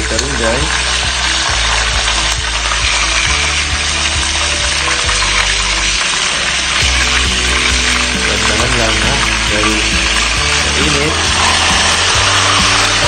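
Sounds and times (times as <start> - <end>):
background music: 0.0 - 13.0
chicken sizzling in hot oil: 0.0 - 13.0.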